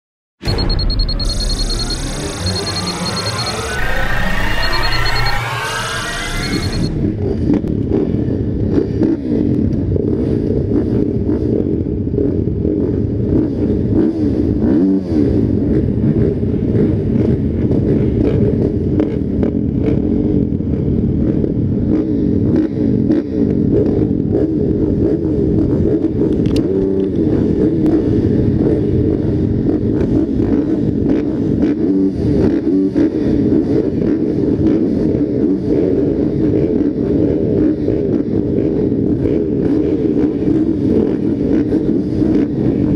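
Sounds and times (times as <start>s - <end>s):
motocross bike engines revving: 0.5s - 20.6s, 21.2s - 42.9s.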